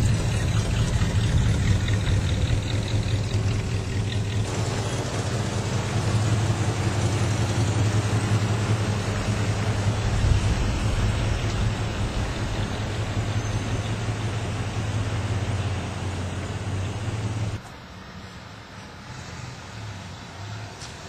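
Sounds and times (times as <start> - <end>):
car engine running: 0.0 - 17.6
rushing noise: 0.0 - 19.9.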